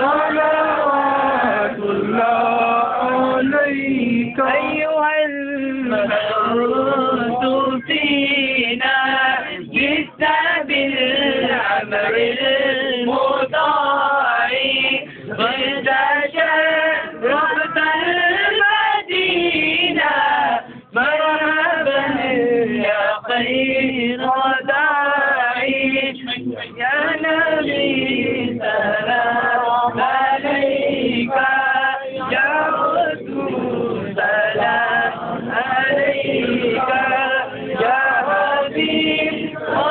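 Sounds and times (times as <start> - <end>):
men chanting devotional verses: 0.0 - 39.9.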